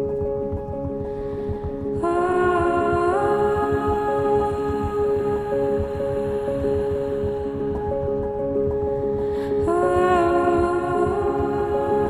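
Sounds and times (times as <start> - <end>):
low pulsing beat: 0.0 - 12.0.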